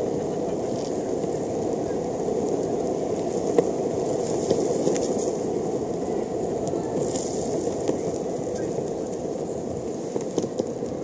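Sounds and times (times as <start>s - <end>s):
wheels rolling over tarmac: 0.0s - 11.0s.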